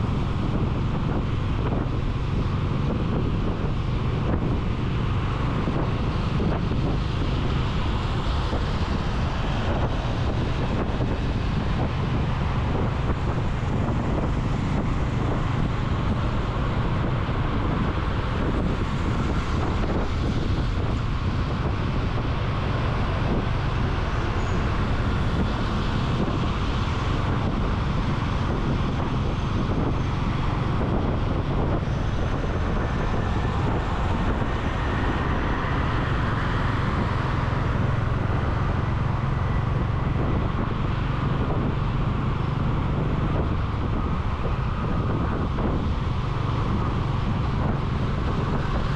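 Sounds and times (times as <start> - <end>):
engine and road noise hum: 0.0 - 48.9
wind buffeting microphone: 0.0 - 48.9.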